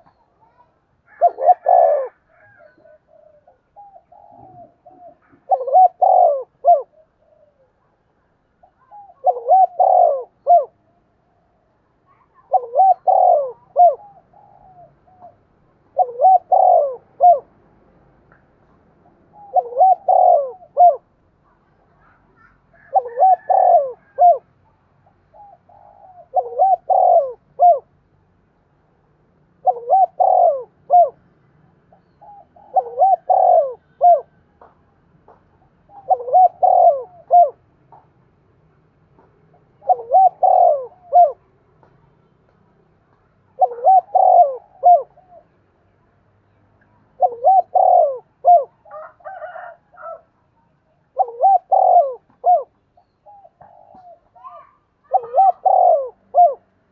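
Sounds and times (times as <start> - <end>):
dove cooing: 0.0 - 17.6, 19.0 - 21.2, 21.9 - 28.0, 29.6 - 31.3, 31.9 - 38.1, 39.2 - 41.9, 43.4 - 45.6, 47.1 - 50.3, 51.1 - 56.9.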